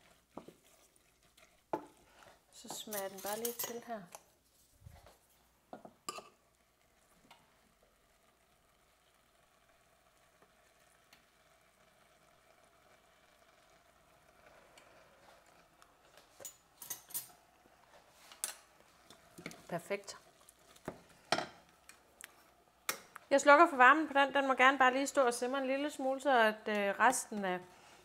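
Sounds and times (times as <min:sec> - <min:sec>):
pot simmering: 0:00.0 - 0:02.9, 0:04.0 - 0:25.9.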